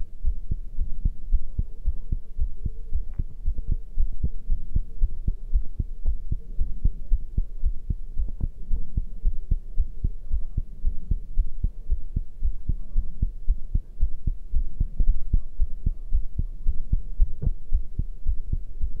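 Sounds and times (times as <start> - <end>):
heart beating fast: 0.0 - 19.0
steady low hum: 0.0 - 19.0.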